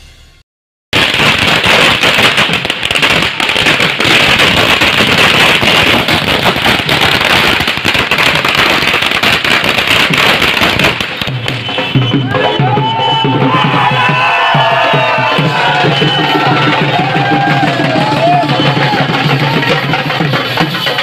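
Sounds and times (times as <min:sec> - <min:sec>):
firecrackers going off: 0:01.0 - 0:21.0.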